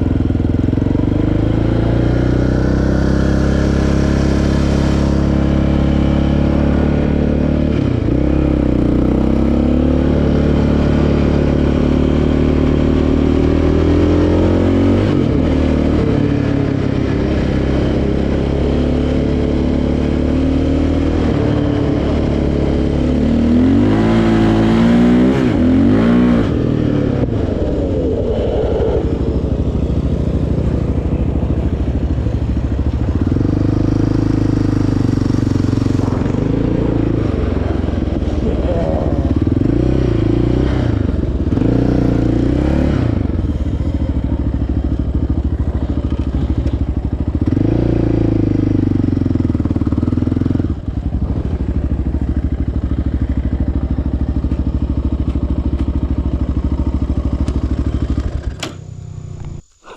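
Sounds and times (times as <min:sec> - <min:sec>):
quad engine revving: 0:00.0 - 0:54.2.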